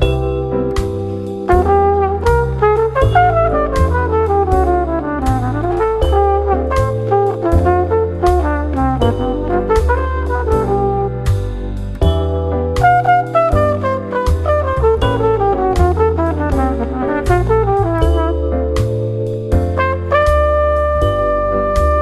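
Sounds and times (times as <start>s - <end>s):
bass: 0.0s - 22.0s
drums: 0.0s - 22.0s
trumpet melody: 0.0s - 22.0s.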